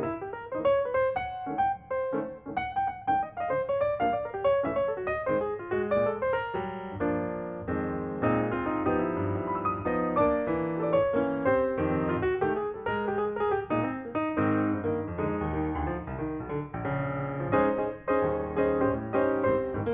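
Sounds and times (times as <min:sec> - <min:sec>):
piano music: 0:00.0 - 0:19.9.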